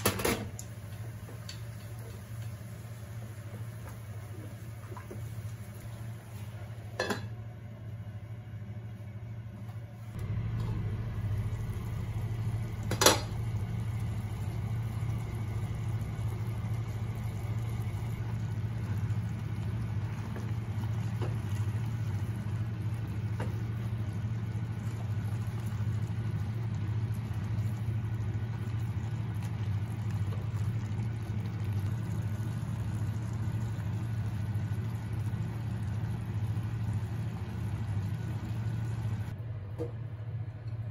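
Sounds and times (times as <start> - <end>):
low appliance hum: 0.0 - 40.9.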